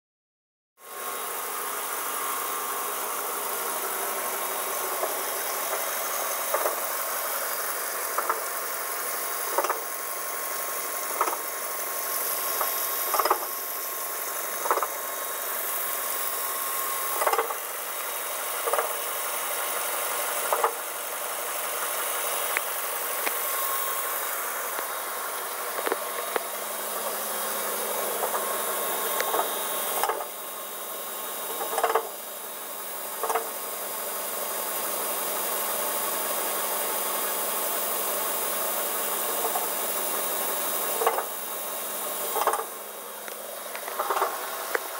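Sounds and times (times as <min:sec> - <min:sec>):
car engine running: 0:00.8 - 0:44.9.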